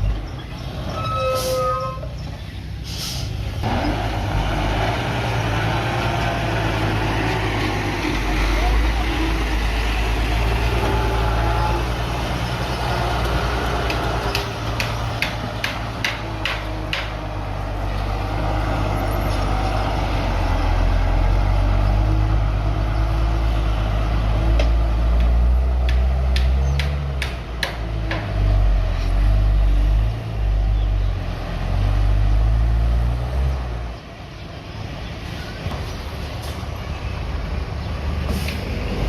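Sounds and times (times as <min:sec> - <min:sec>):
bulldozer diesel engine: 0:00.0 - 0:39.0.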